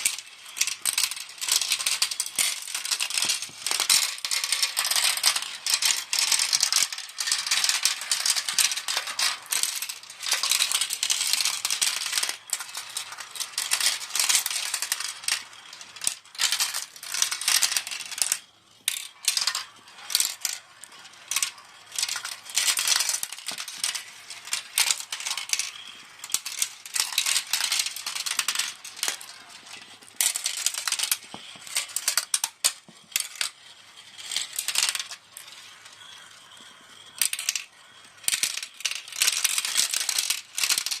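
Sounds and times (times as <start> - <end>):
marbles rolling and clattering: 0.0 - 41.0.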